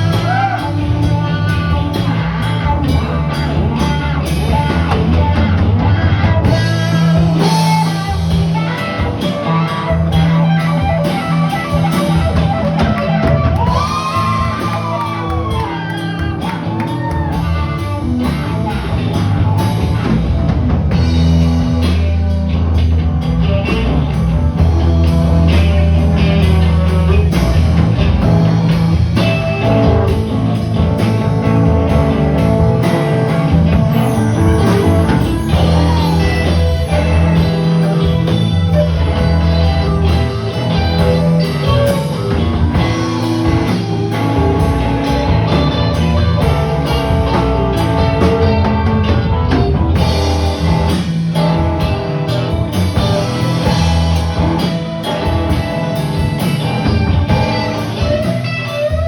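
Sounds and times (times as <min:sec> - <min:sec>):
drums: 0:00.0 - 0:59.0
electric guitar: 0:00.0 - 0:59.0
steady bass line: 0:00.0 - 0:59.0.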